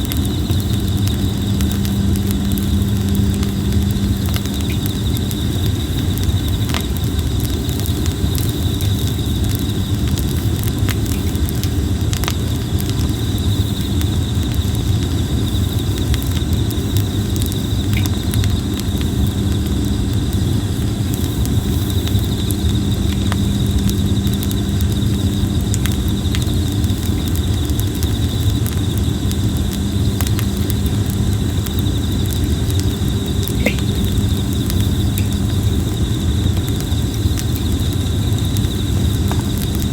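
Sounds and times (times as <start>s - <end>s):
campfire crackling and popping: 0.0s - 39.9s
insect chorus: 0.0s - 39.9s
low fire rumble: 0.0s - 39.9s.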